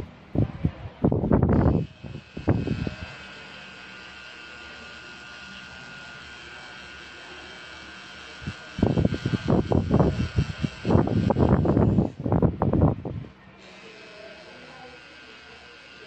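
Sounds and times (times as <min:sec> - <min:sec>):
loud irregular noise: 0:00.0 - 0:16.0
tattoo machine buzzing: 0:01.1 - 0:16.0.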